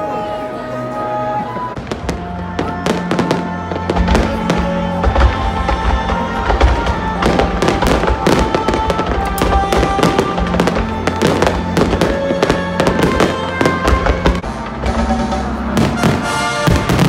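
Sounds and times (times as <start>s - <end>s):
fireworks bangs and crackles: 1.2s - 17.0s.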